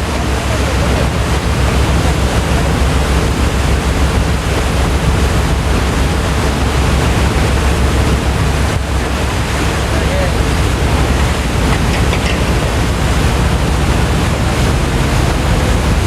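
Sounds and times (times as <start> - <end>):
ferry engines droning: 0.0 - 16.0
wind and sea water rushing: 0.0 - 16.0.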